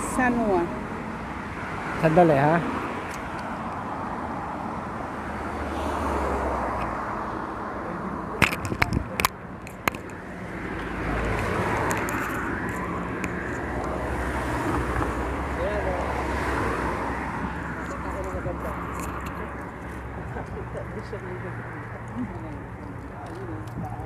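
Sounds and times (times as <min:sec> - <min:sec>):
cars passing: 0:00.0 - 0:24.0.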